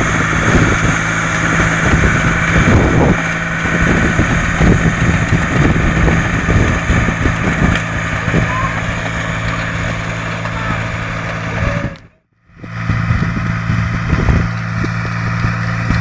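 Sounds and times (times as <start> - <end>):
tractor running: 0.0 - 16.0
wind buffeting microphone: 0.0 - 16.0.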